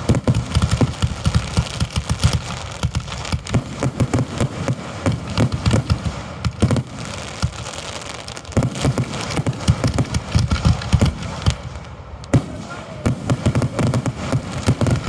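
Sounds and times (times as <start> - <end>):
fireworks bursts and bangs: 0.0 - 15.0
fireworks crackling hiss: 0.0 - 15.0.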